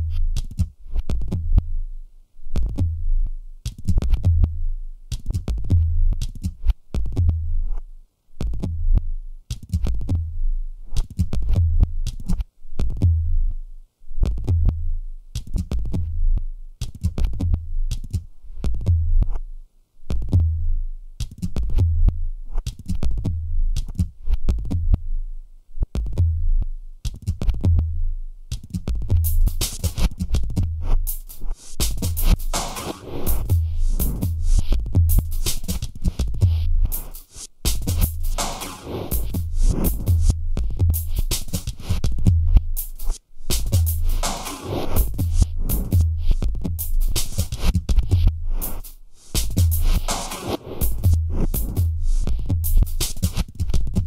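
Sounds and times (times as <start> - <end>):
bass-heavy background music: 2.6 - 54.0.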